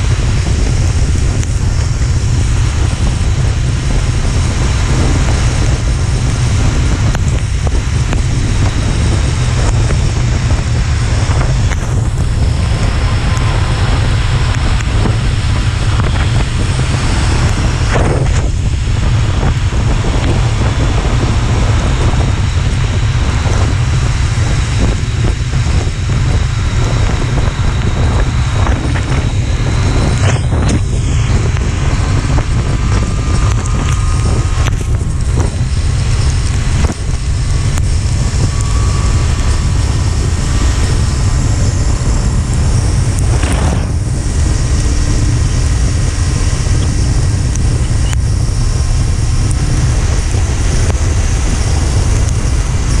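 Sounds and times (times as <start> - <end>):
road and traffic noise: 0.0 - 53.0
wind buffeting microphone: 0.0 - 53.0.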